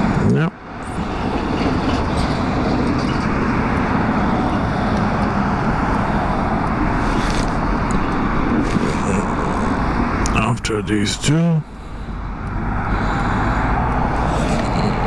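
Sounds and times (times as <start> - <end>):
cars driving past: 0.0 - 15.0
truck towing trailer: 0.0 - 15.0.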